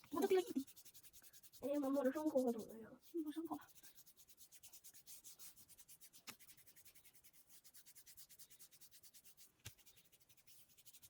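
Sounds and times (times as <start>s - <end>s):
hands rubbing oiled skin: 0.0s - 11.0s.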